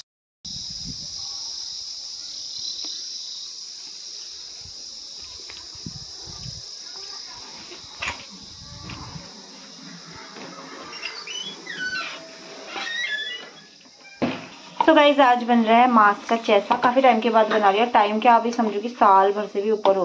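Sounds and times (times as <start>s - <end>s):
high-pitched insect chorus: 0.5s - 20.0s.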